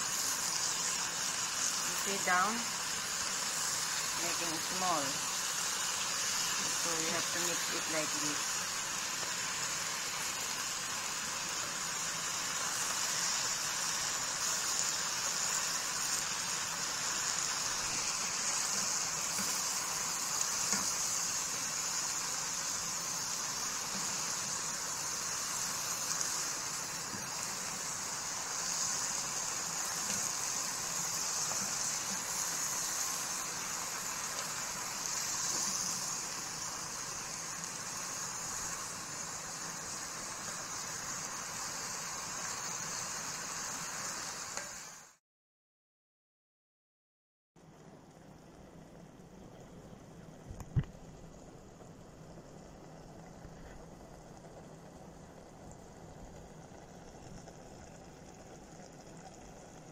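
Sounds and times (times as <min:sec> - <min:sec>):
pot simmering hiss: 0:00.0 - 0:45.2, 0:47.6 - 0:59.9.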